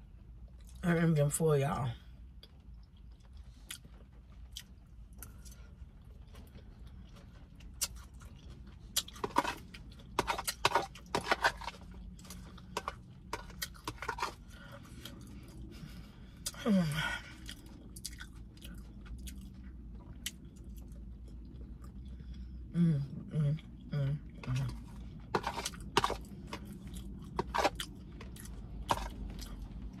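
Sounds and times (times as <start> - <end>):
faint low hum: 0.0 - 30.0
chewing and mouth clicks: 2.3 - 16.6, 17.4 - 22.7, 23.7 - 30.0.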